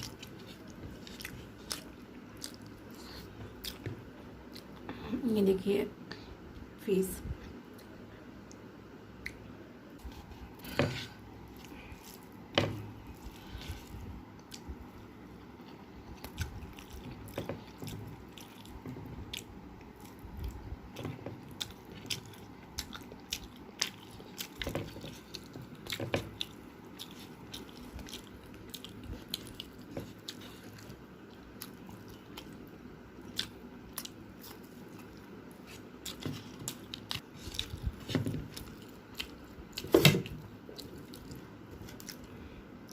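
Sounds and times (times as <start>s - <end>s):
wet chewing: 0.0s - 4.9s, 9.2s - 42.9s.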